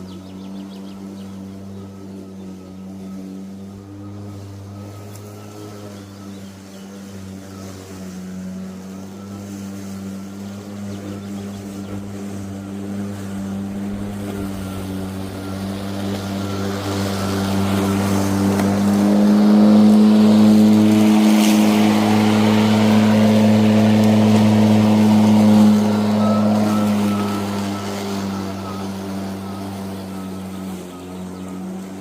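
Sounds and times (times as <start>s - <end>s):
lawn mower humming: 0.0s - 32.0s.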